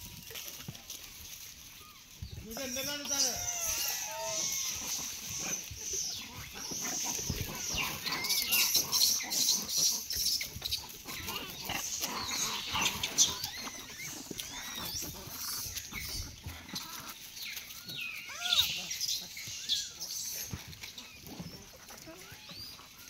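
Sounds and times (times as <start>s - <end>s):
rustling in dry leaves: 0.0s - 23.0s
monkeys squeaky calls: 1.6s - 23.0s.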